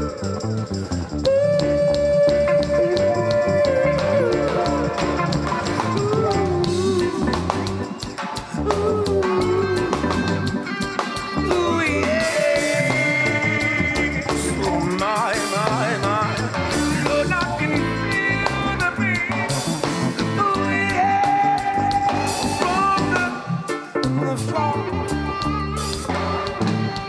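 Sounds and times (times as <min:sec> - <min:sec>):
reggae band playing live: 0:00.0 - 0:27.0.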